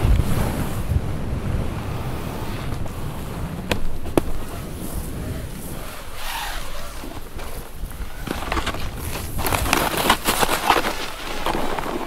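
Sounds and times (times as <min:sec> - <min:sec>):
low wind rumble: 0:00.0 - 0:12.0
snowboard scraping through snow: 0:00.0 - 0:12.0.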